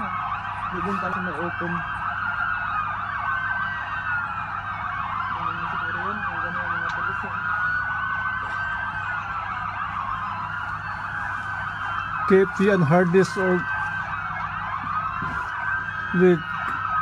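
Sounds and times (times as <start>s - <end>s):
emergency sirens wailing: 0.0s - 17.0s.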